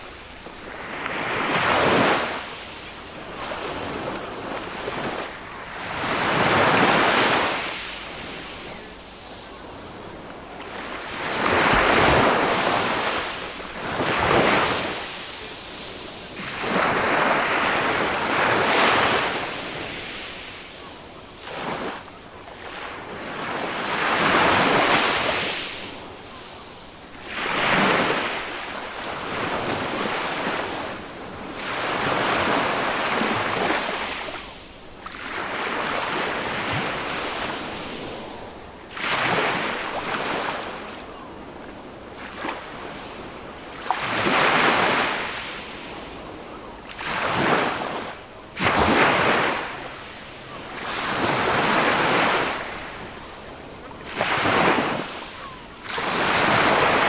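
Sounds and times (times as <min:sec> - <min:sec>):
small waves washing up beach: 0:00.0 - 0:57.0.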